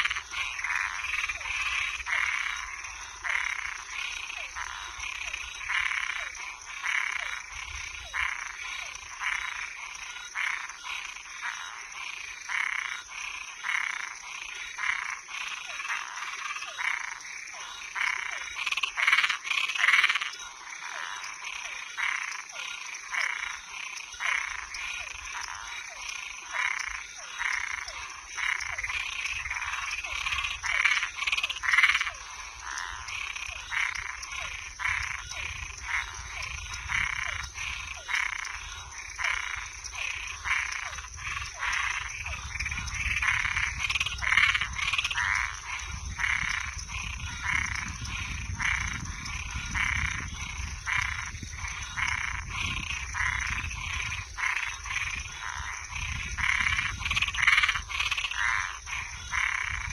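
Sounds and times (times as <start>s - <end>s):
crickets trilling: 0.0s - 59.9s
frogs calling: 0.0s - 59.9s.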